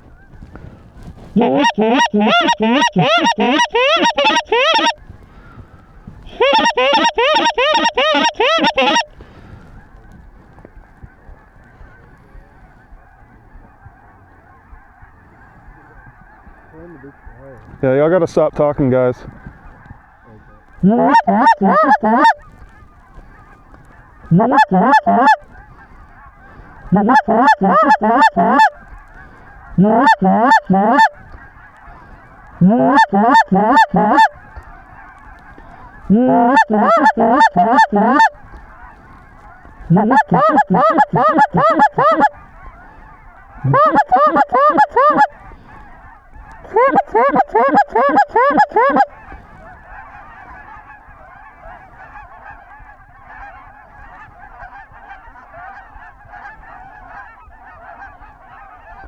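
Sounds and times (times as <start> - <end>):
flock of geese honking: 0.0 - 59.0
goose call honks and clucks: 0.0 - 59.0.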